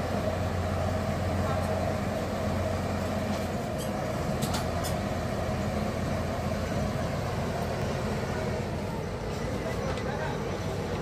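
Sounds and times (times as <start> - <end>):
ferry engine droning: 0.0 - 11.0.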